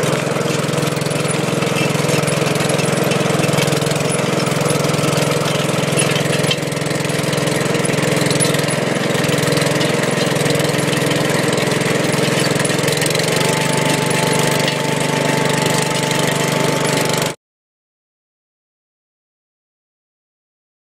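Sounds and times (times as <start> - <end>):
chain trencher digging soil: 0.0 - 17.4
tractor engine under load: 0.0 - 17.4.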